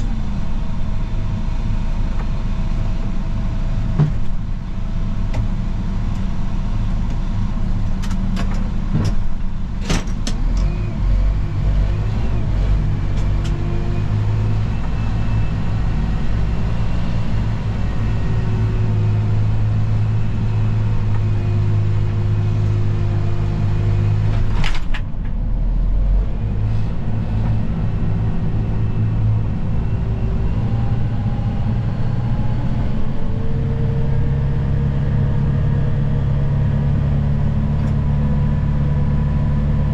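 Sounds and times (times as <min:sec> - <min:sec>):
snowplow engine running: 0:00.0 - 0:39.9.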